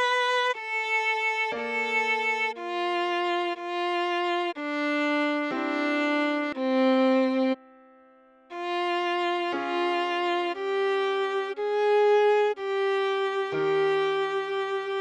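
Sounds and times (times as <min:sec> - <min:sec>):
viola playing slow melody: 0:00.0 - 0:15.0.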